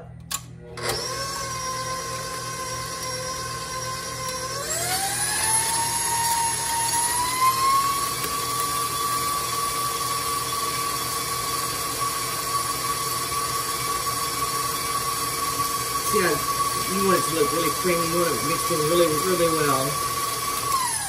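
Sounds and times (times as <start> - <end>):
stand mixer motor whine: 0.8 - 21.0.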